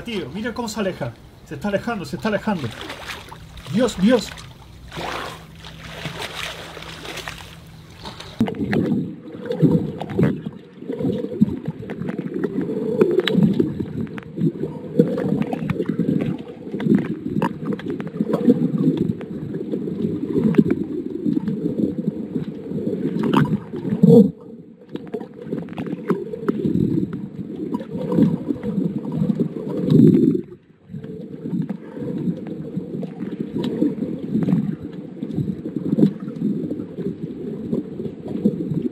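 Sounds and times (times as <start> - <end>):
muffled underwater sloshing: 0.0 - 38.9.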